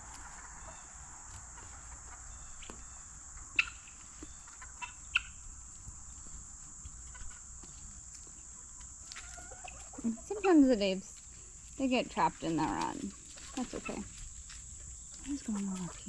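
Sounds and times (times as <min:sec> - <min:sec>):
poultry calls: 0:00.0 - 0:11.0, 0:11.9 - 0:16.0
high-pitched insect chorus: 0:00.0 - 0:16.0.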